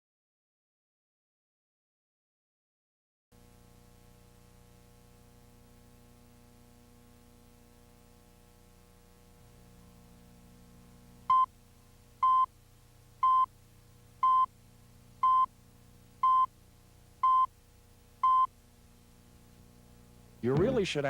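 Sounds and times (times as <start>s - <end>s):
faint low hum: 3.4s - 21.0s.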